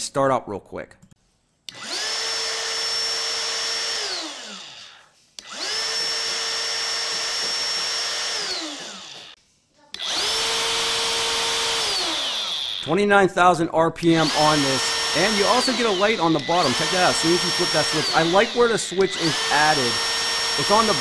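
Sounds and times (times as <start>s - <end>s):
trim router high whine: 1.7s - 9.4s, 10.0s - 12.9s, 14.2s - 21.0s.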